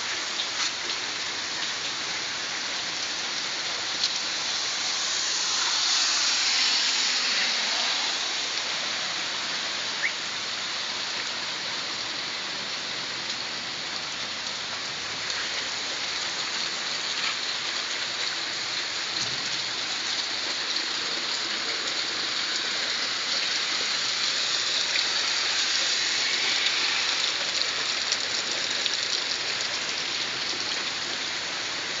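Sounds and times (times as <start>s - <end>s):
rain falling on pavement: 0.0s - 32.0s.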